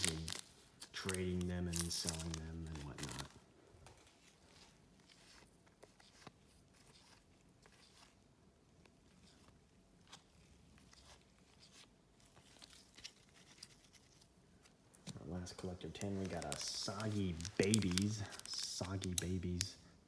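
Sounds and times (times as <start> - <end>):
trading cards rustling: 0.0 - 8.2, 8.8 - 19.9.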